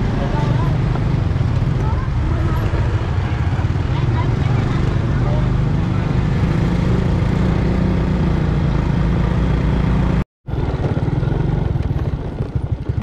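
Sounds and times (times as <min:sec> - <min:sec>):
small engine running: 0:01.8 - 0:13.0.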